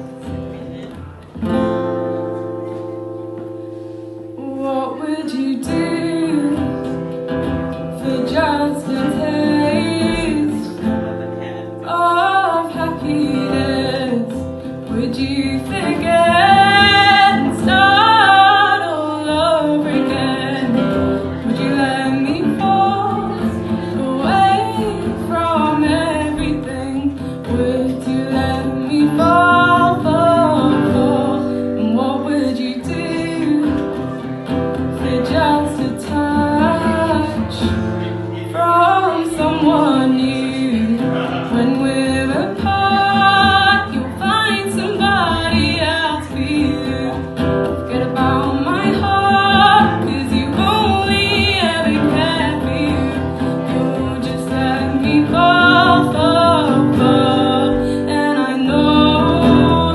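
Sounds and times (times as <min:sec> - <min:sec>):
acoustic guitar: 0:00.0 - 0:59.9
woman singing: 0:04.3 - 0:59.9.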